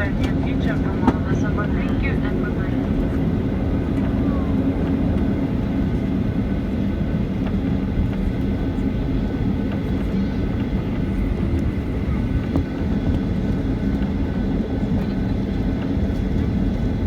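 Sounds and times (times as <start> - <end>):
aircraft engines idling hum: 0.0 - 17.0.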